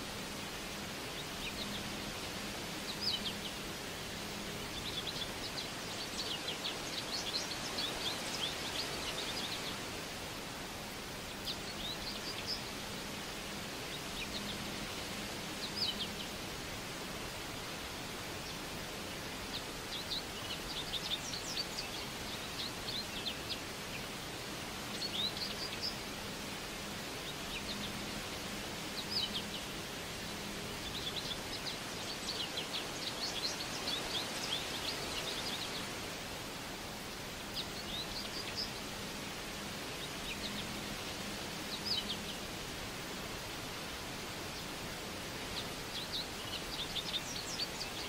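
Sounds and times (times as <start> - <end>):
small birds chirping: 0.0 - 48.0
steady background hiss: 0.0 - 48.0.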